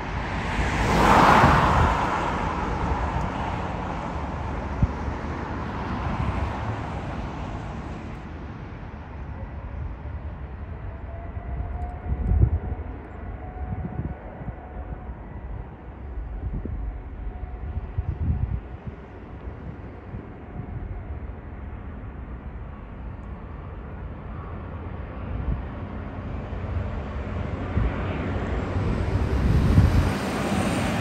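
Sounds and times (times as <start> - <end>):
jet airliner engine roar: 0.0 - 31.0
wind buffeting microphone: 0.0 - 31.0
faint jet engine whine: 1.6 - 31.0.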